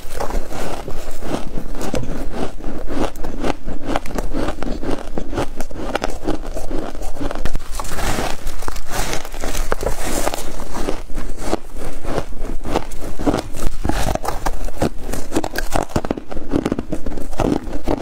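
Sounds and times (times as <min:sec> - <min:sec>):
crunchy chewing of frost ice: 0:00.0 - 0:18.0.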